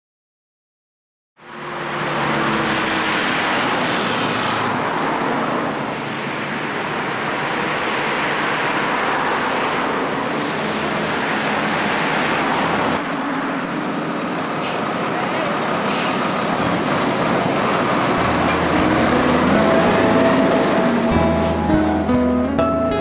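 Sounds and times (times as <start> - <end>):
cars driving past: 1.4 - 22.8.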